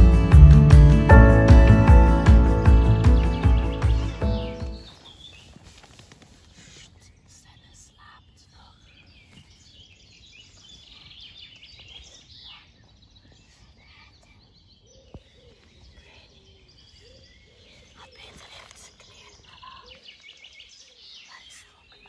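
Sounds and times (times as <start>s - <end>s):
birds chirping and trilling: 2.1s - 6.0s, 6.6s - 22.0s.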